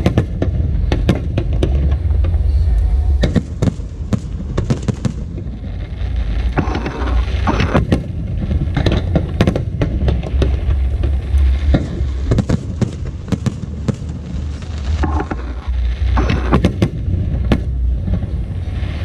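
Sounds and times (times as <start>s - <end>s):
continuous low rumble: 0.0s - 19.0s
fireworks bursting: 0.0s - 19.0s.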